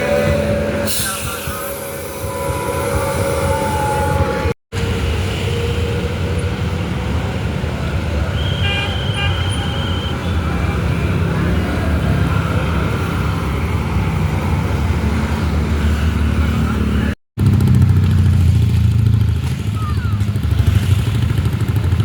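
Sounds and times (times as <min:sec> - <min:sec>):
bus and traffic engines rumbling: 0:00.0 - 0:22.0.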